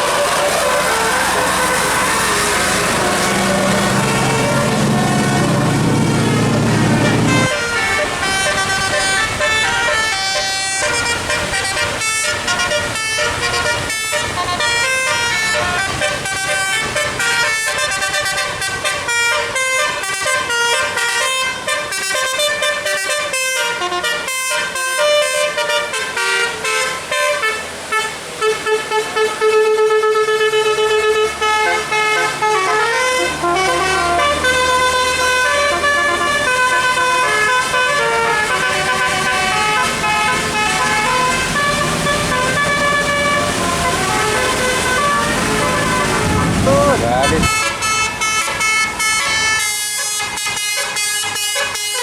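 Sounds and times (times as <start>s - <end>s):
multi-tone air horn melody: 0.0s - 52.0s.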